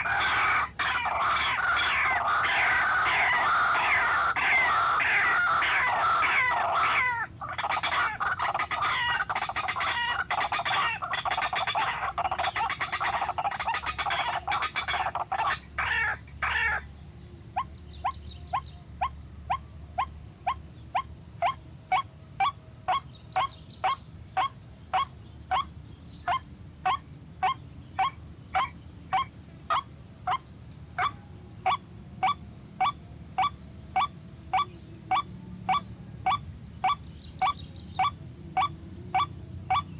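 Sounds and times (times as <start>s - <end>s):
bird harsh croaking calls: 0.0s - 39.9s.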